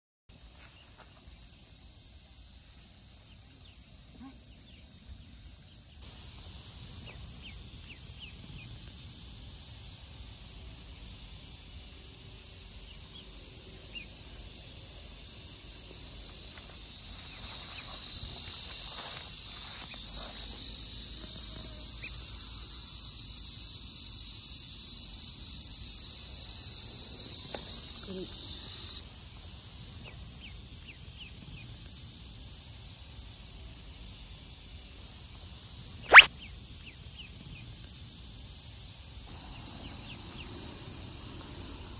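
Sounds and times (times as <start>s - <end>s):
insect drone: 0.3s - 41.9s.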